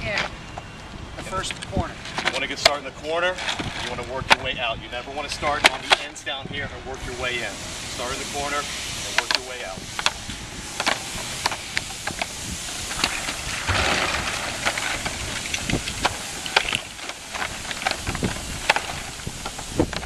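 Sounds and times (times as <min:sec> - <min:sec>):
outdoor hiss: 0:01.3 - 0:20.0.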